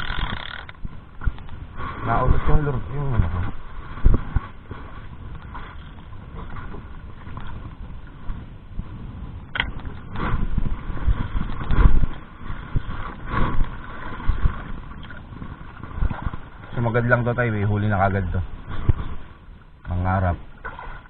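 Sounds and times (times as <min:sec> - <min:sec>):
water slapping boat: 0:00.0 - 0:21.0
wind rumbling on microphone: 0:00.0 - 0:21.0.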